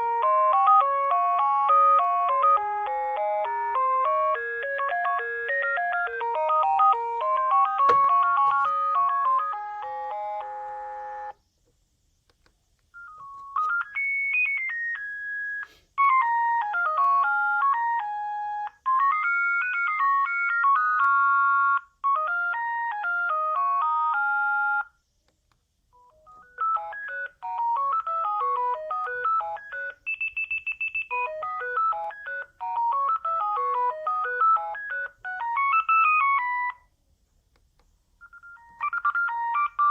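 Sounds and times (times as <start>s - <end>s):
phone ringtone beeping melodies: 0.0s - 11.4s, 12.9s - 24.9s, 26.0s - 36.9s, 38.2s - 39.9s.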